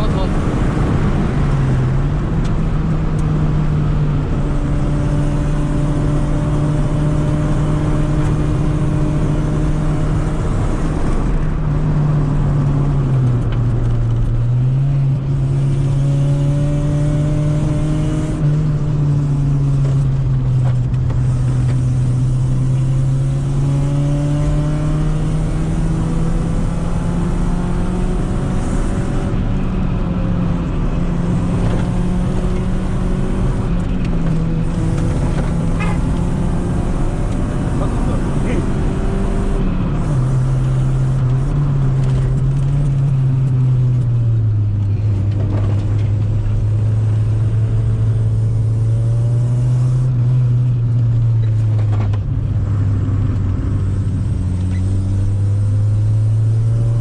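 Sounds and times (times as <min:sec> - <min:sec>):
car engine and exhaust droning: 0:00.0 - 0:57.0.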